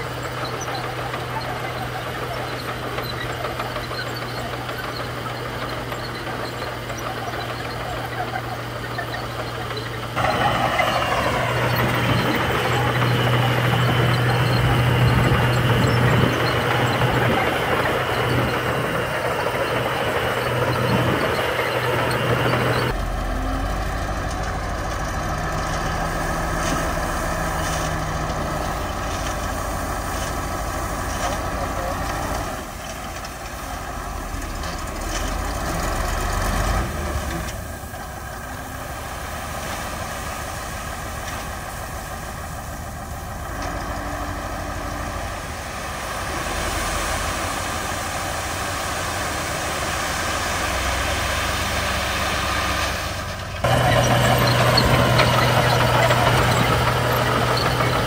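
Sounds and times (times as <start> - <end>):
bulldozer working: 0.0 - 58.0
dump truck engine idling: 0.0 - 58.0.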